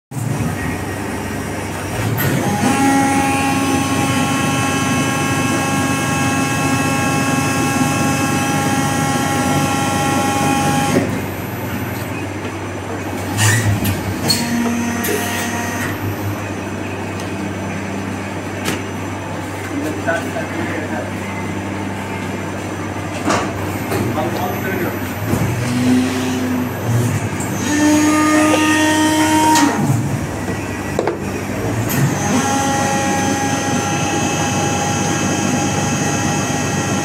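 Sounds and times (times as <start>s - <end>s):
factory machinery running: 0.1s - 37.0s
machine droning whine: 0.1s - 37.0s.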